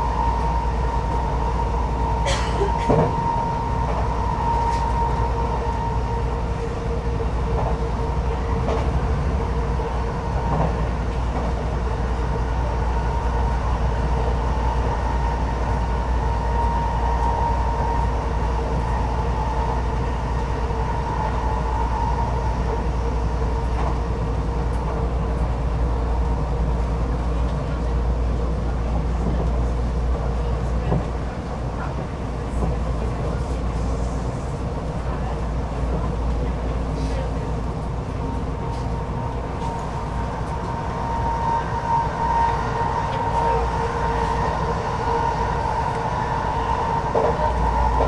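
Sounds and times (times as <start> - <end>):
steady whine: 0.0 - 27.1, 36.3 - 48.0
train rumbling: 0.0 - 48.0.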